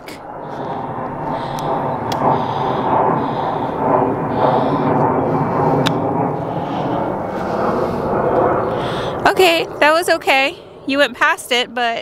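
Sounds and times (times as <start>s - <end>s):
airplane engine passing over: 0.0s - 12.0s.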